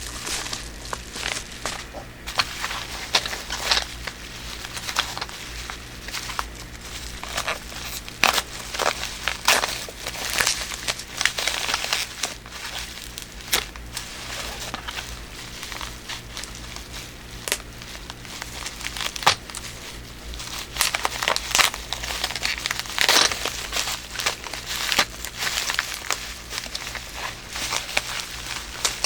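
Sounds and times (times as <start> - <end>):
packaging crinkling and rustling: 0.0 - 29.0.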